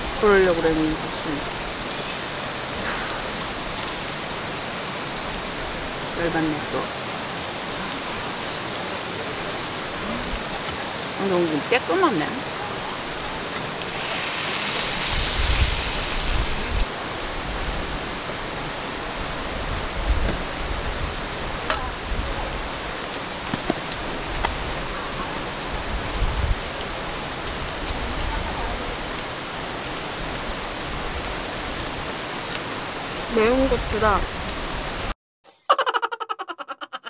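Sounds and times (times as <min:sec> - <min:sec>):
steady rain hiss: 0:00.0 - 0:35.2.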